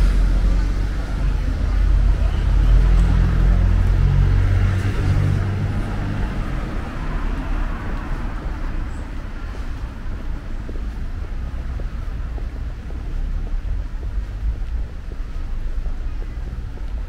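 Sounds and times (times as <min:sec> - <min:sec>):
vehicle engine rumble passing: 0:00.0 - 0:17.0.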